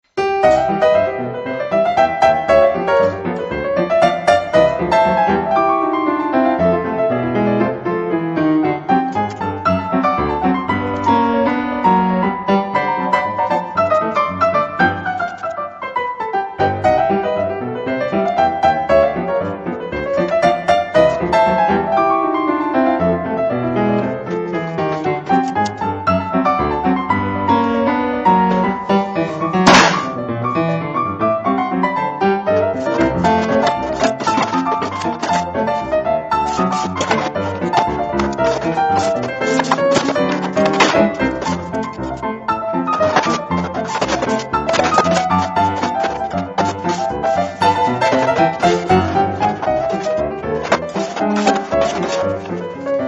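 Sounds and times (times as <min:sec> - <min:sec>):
piano music: 0:00.1 - 0:53.0.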